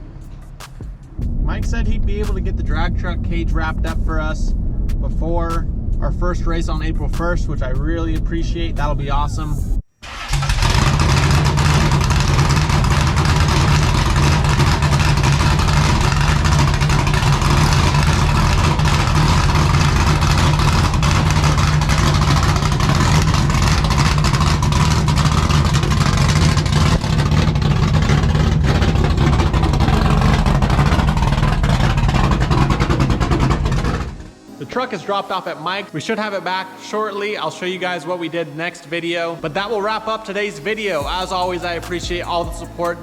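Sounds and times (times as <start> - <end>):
road noise: 0.0 - 43.0
truck engine cruising: 0.0 - 43.0.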